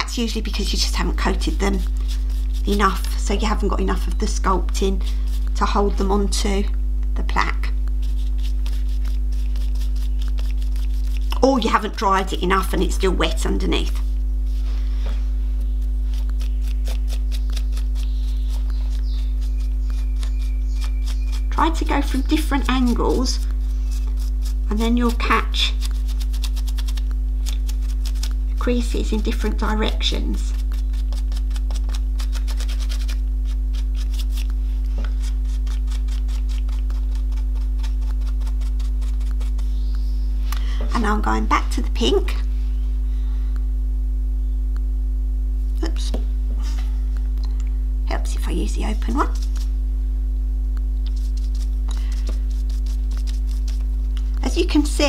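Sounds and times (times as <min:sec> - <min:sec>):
bristles scratching: 0:00.0 - 0:06.6, 0:07.5 - 0:42.8, 0:48.1 - 0:49.8, 0:51.0 - 0:55.0
electrical mains hum: 0:00.0 - 0:55.0.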